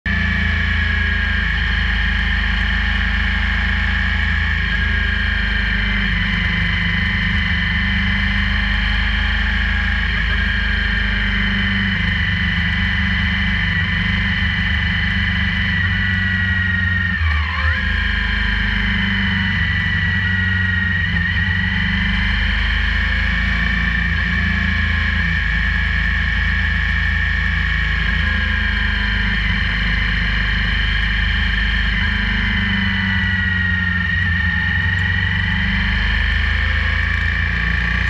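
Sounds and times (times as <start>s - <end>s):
motorcycle engine running: 0.0s - 38.0s
steady whine: 0.1s - 38.0s.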